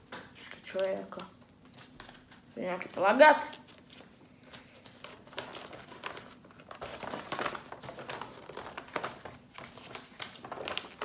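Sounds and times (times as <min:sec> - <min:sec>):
paper rustling and crinkling: 0:00.3 - 0:11.0.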